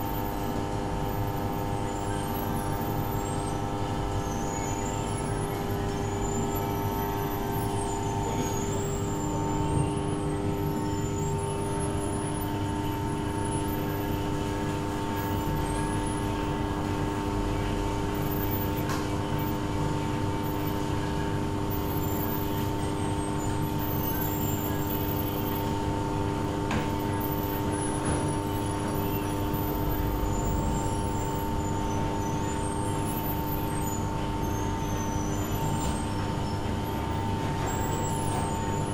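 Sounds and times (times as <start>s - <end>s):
steady mechanical hum: 0.0s - 38.9s.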